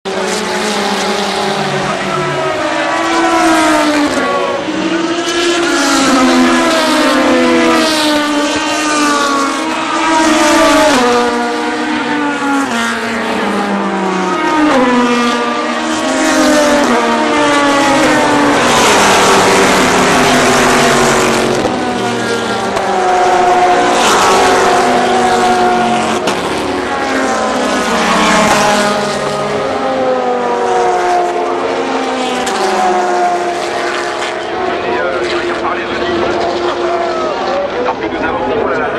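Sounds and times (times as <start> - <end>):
race cars passing: 0.1 - 38.9.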